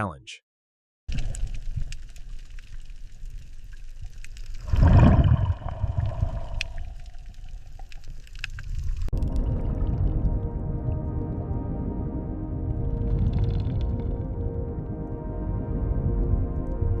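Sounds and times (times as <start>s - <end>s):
underwater low rumble: 1.1s - 17.0s.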